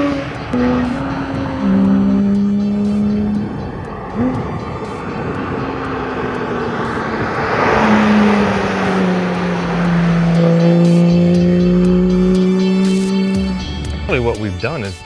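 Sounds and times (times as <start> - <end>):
race car engine revving hard: 0.0 - 13.8.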